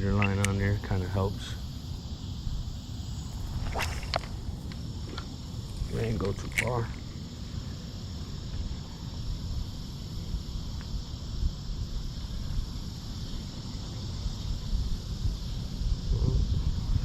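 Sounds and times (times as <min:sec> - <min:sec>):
crickets chirring: 0:00.0 - 0:17.0
low rumble on microphone: 0:00.0 - 0:17.0.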